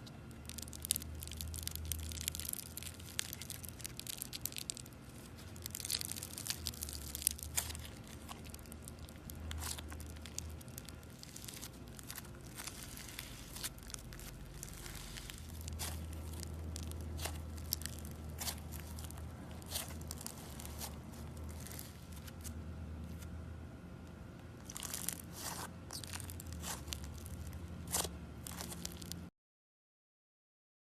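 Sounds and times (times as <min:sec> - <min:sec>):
slime crackling and popping: 0:00.0 - 0:23.3, 0:24.5 - 0:29.3
steady low hum: 0:00.0 - 0:29.3.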